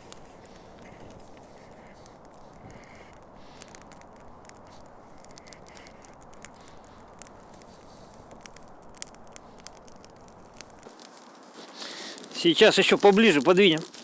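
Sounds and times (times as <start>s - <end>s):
campfire kindling crackling: 0.0s - 14.0s
sharp pops: 0.0s - 14.0s.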